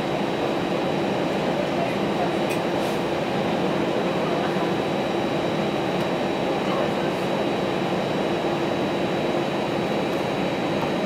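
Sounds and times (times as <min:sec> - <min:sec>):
airliner cabin engine rush: 0:00.0 - 0:11.0.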